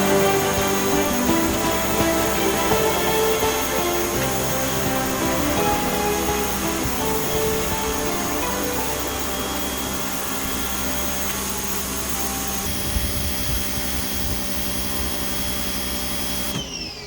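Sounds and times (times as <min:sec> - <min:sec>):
pressure washer spraying concrete: 0:00.0 - 0:16.6.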